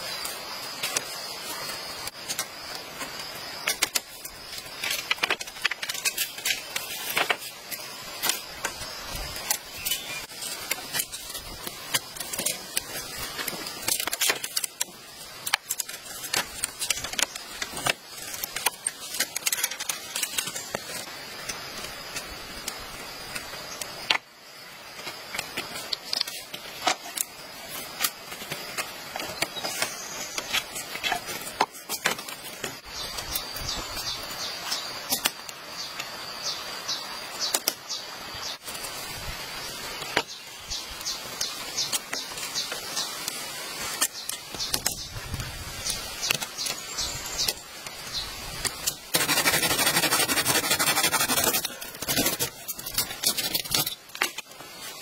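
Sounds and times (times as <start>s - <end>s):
bamboo strips clicking and rattling: 0.0s - 36.2s, 37.0s - 37.9s, 38.6s - 55.0s.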